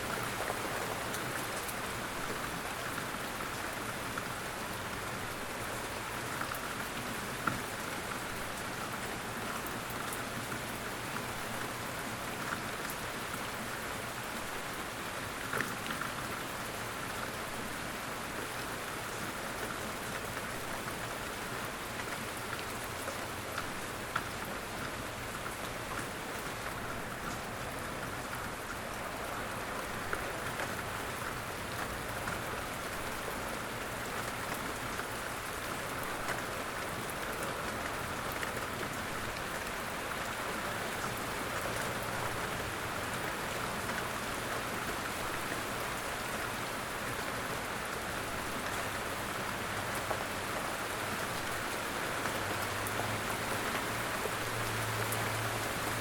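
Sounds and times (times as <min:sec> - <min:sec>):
light rain pattering on leaves: 0:00.0 - 0:56.0.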